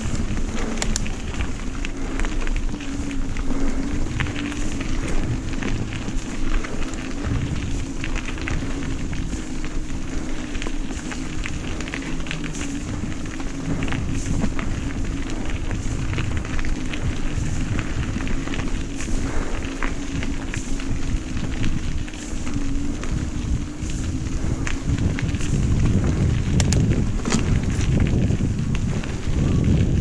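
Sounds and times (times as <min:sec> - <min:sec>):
steady low hum: 0:00.0 - 0:30.0
tyre and road noise: 0:00.0 - 0:30.0
wind rumbling on microphone: 0:00.0 - 0:30.0.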